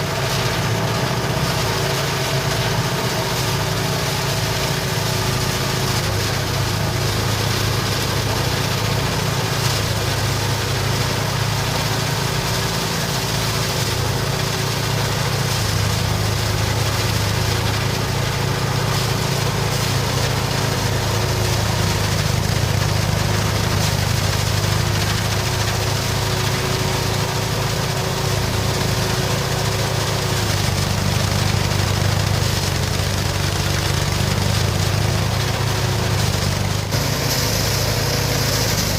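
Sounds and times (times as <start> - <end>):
small engine droning: 0.0 - 38.9.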